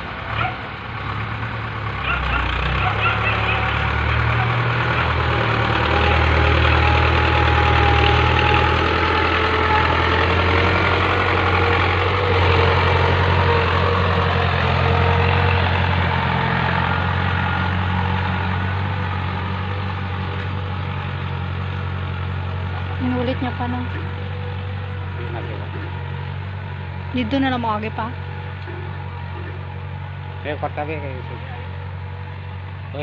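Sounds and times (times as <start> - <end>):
tractor engine under load: 0.0 - 33.0.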